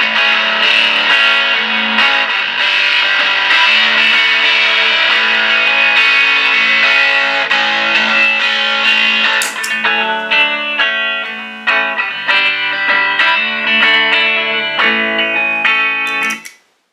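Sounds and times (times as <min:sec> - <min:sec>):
distorted electric guitar: 0:00.0 - 0:16.6.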